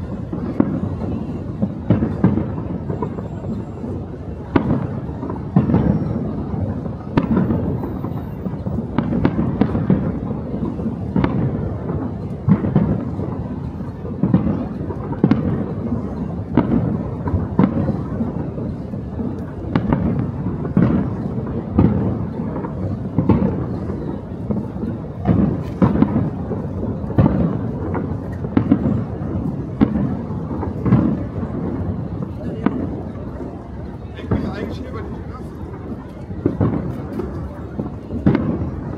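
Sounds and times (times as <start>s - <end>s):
fireworks booming: 0.0s - 38.9s.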